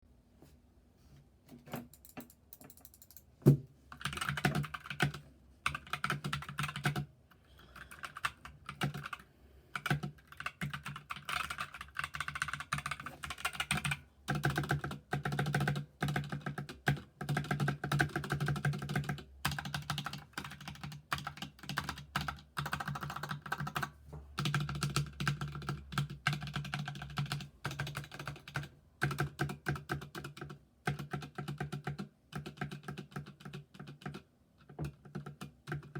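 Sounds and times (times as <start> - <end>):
mechanical keyboard typing: 1.9 - 3.2, 3.9 - 7.1, 7.8 - 35.9.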